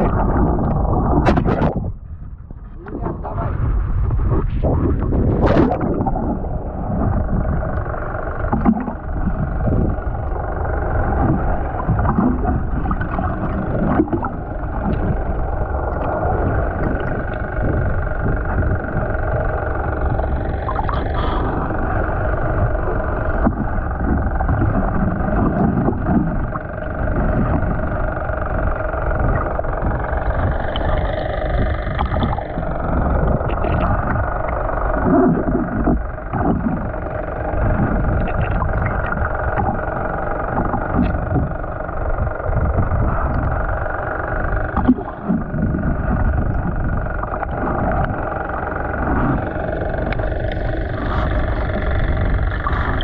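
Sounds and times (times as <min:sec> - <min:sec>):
boat engine droning underwater: 0:00.0 - 0:53.0.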